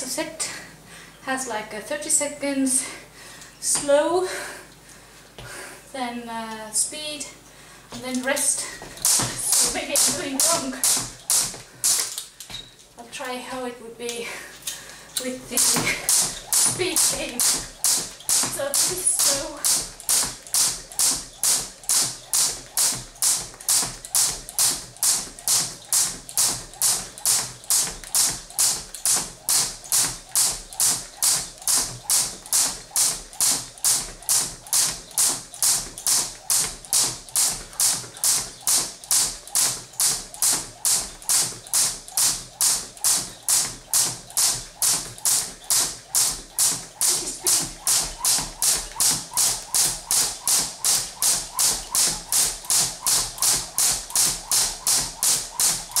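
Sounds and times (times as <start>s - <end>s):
jump rope slapping floor: 7.9s - 12.7s, 14.6s - 56.0s.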